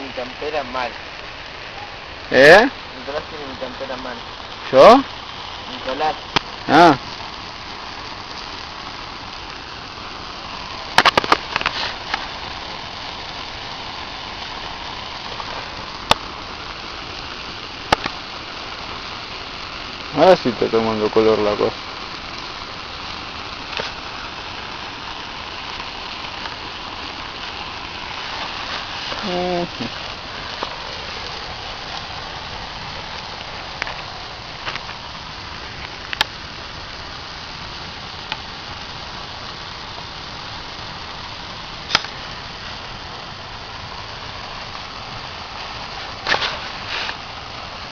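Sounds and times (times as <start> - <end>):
fire crackling pops: 0.0 - 47.9
hiss of flames: 0.0 - 47.9.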